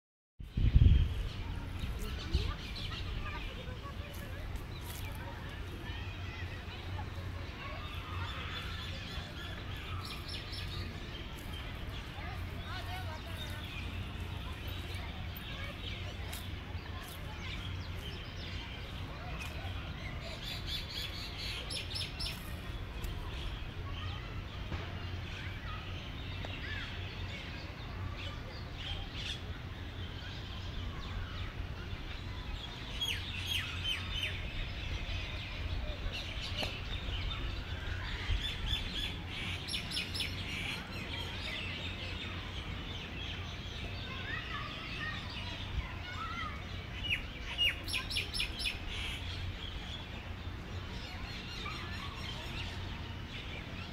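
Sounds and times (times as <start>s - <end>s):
small birds chirping: 0.4s - 53.9s.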